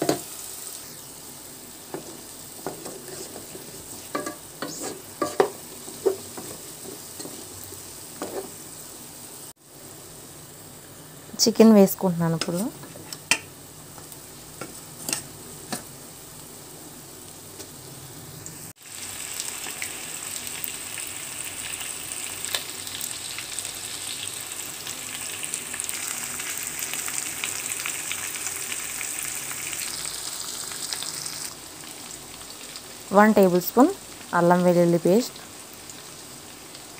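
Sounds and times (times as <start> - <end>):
chicken sizzling in hot oil: 0.0 - 36.9.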